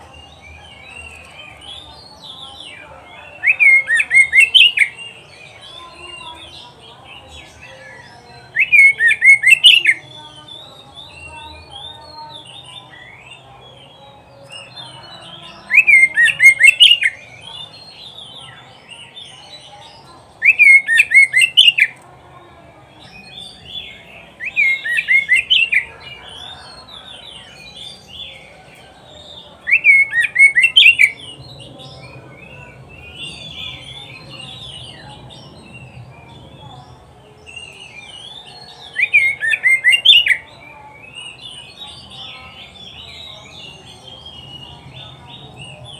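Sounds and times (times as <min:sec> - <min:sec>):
bird singing sharp phrases: 0:00.0 - 0:22.2, 0:22.8 - 0:45.9
continuous bird twittering: 0:00.0 - 0:45.9.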